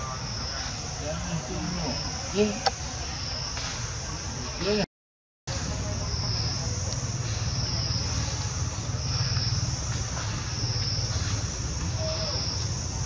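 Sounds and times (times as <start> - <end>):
high-pitched insect chorus: 0.0 - 4.8, 5.5 - 13.0.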